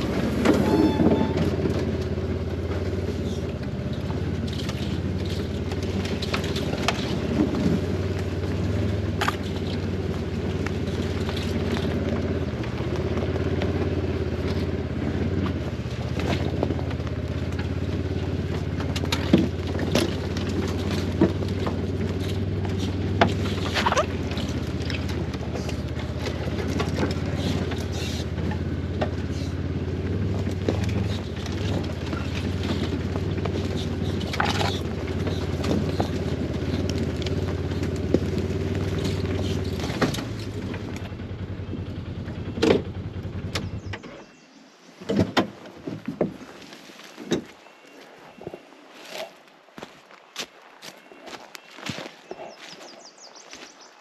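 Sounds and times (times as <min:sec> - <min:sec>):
atv engine running: 0:00.0 - 0:50.2, 0:50.8 - 0:54.0.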